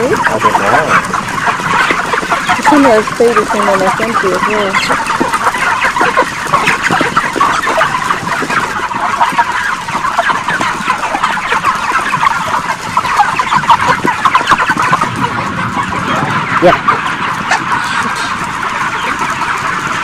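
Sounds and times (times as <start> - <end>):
flock of chickens clucking: 0.0 - 20.0.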